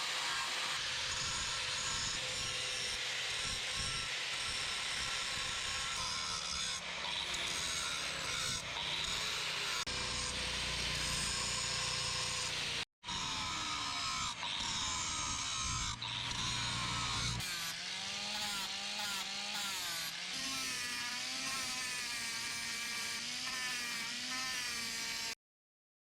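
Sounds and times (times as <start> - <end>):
grinder working steel: 0.0 - 25.4.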